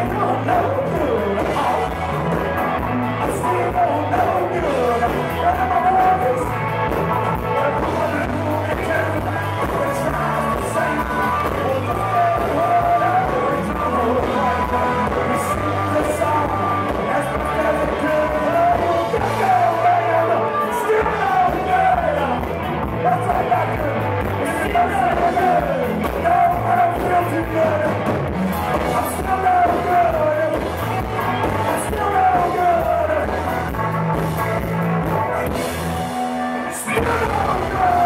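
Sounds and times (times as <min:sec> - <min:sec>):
blues-rock band playing: 0:00.0 - 0:38.0
electric bass: 0:00.0 - 0:38.0
man singing: 0:00.0 - 0:38.0.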